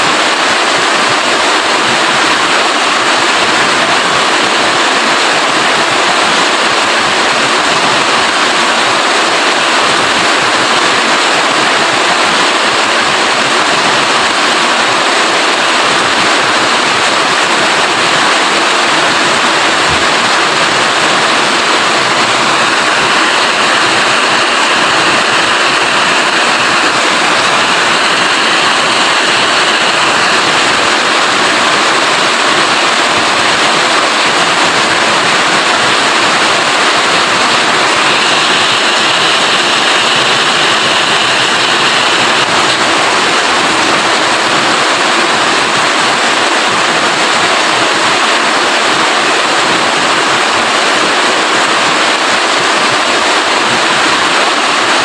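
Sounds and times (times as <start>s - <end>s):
loud steady rain: 0.0s - 55.0s.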